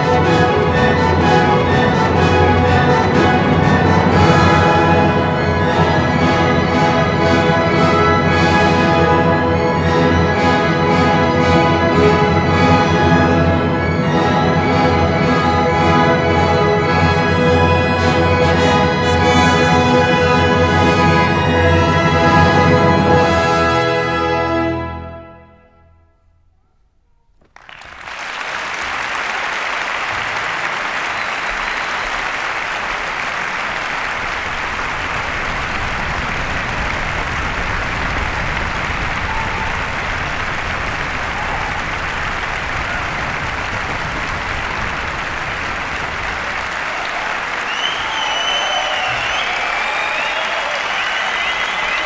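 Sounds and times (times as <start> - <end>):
audience applause: 0.0 - 23.4, 27.4 - 52.0.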